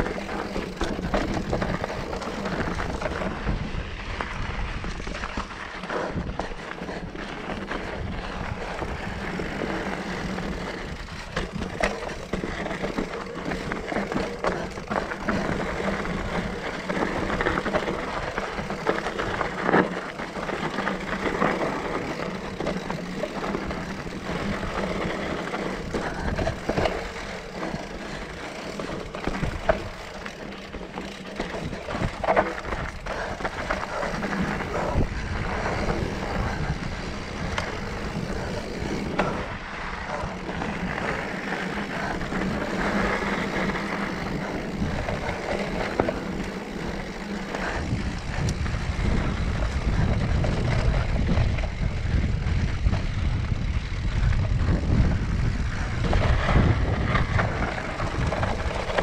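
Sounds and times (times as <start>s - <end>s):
bike knocking and rattling: 0.0s - 59.0s
tyre and wind noise: 0.0s - 59.0s.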